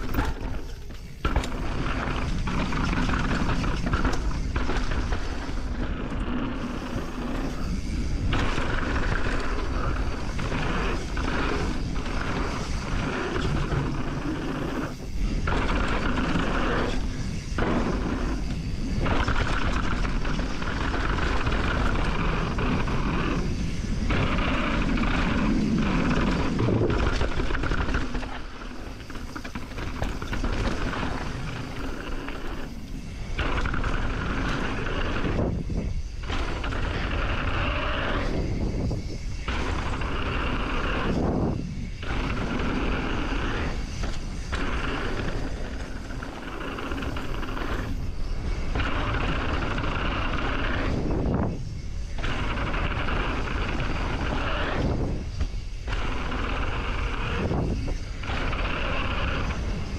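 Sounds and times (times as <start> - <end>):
bike trail noise: 0.0 - 59.9
wind rush: 0.0 - 59.9.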